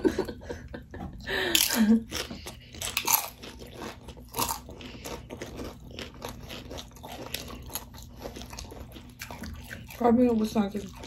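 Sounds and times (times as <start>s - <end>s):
tortilla chips crunching: 1.4s - 11.0s.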